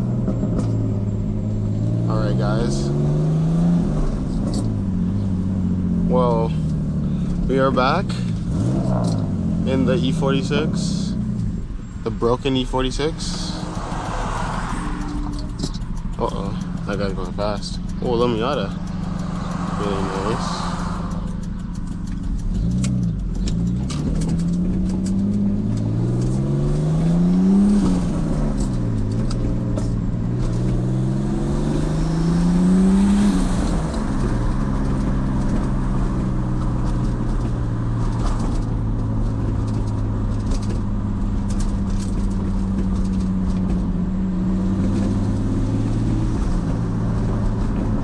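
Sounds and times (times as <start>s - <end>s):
car engine revving through gears: 0.0s - 48.0s.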